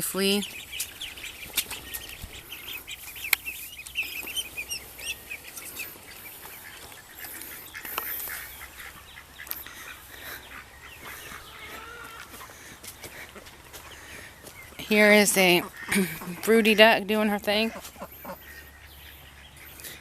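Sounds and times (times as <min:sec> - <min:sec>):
ducklings peeping: 0:00.0 - 0:20.0
ducks calling: 0:00.0 - 0:20.0.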